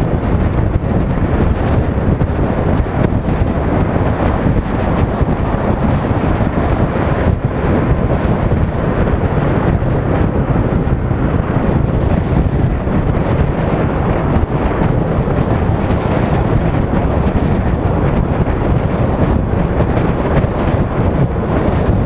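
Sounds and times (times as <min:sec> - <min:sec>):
motorcycle ride rumble: 0:00.0 - 0:22.0
wind buffeting microphone: 0:00.0 - 0:22.0.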